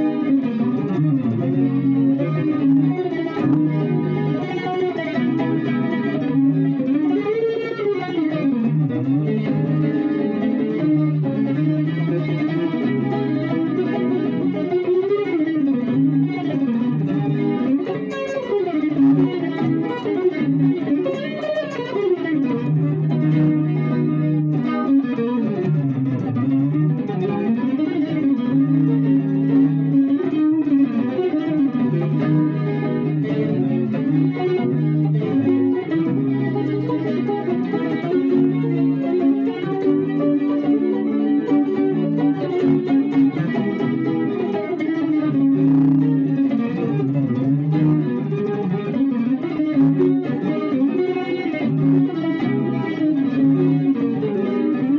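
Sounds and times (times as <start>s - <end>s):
electric guitar chords and melody: 0.0s - 54.9s.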